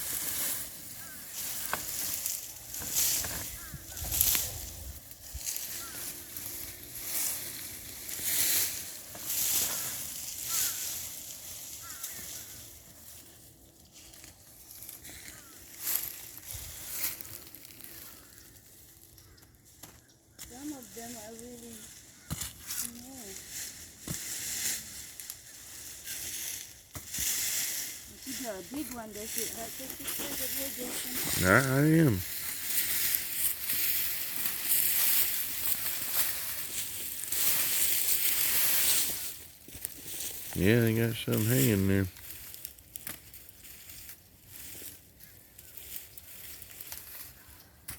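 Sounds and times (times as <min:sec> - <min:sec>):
rustling and scraping in mulch: 0:00.0 - 0:47.9.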